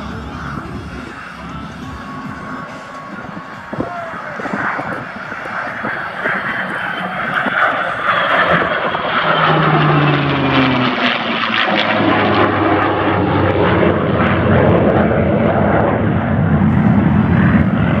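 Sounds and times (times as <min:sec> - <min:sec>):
jet engine roar: 0:00.0 - 0:18.0
propeller engine drone: 0:00.0 - 0:18.0.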